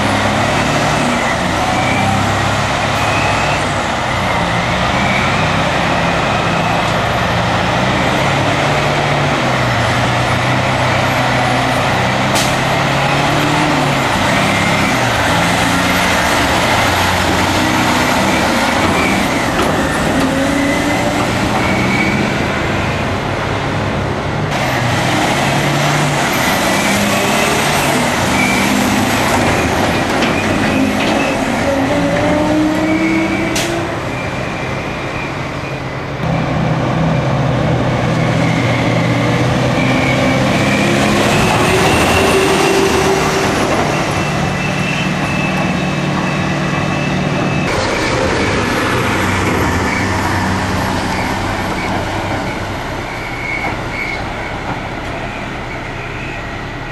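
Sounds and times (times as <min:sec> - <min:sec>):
diesel truck engines accelerating: 0:00.0 - 0:56.9.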